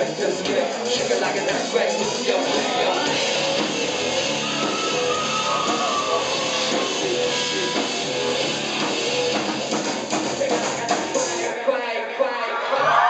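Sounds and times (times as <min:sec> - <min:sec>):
live rock band playing: 0:00.1 - 0:11.5.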